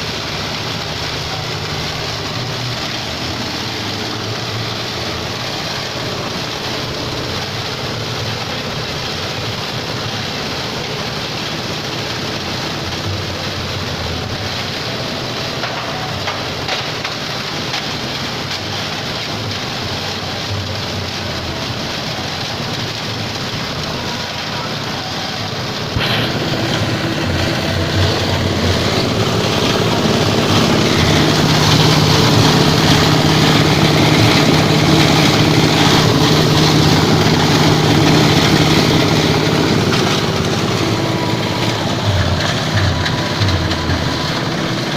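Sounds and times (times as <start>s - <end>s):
plastic shredder running: 0.0s - 44.9s.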